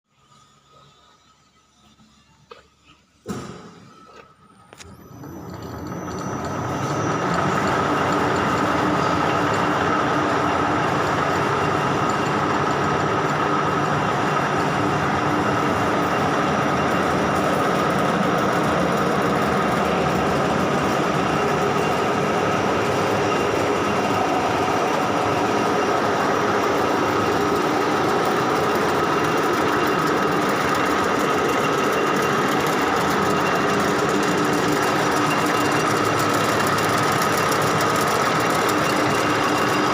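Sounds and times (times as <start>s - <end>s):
milling machine drone and rattle: 4.7s - 39.9s.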